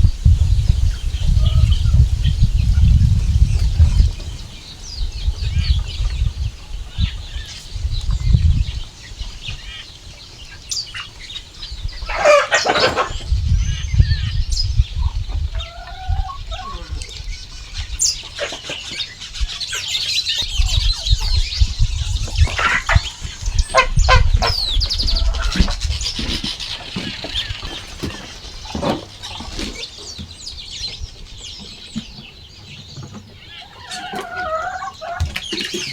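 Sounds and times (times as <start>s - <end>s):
birds chirping: 0.0s - 35.9s
chickens clucking: 0.2s - 35.9s.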